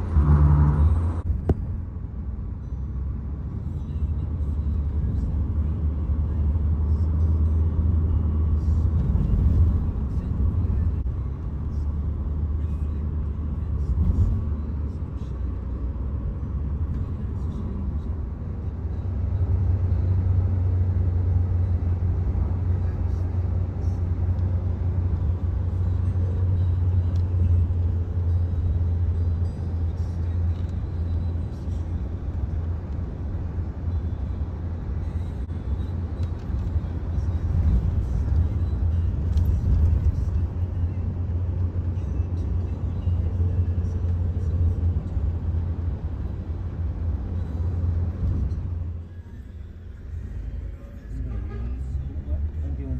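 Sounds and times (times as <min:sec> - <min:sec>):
car road rumble from inside: 0:00.0 - 0:52.9.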